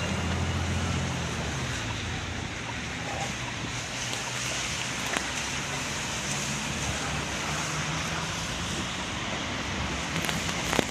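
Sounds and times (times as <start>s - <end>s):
car engines running: 0.0s - 10.9s
tyres hissing on wet road: 0.0s - 10.9s.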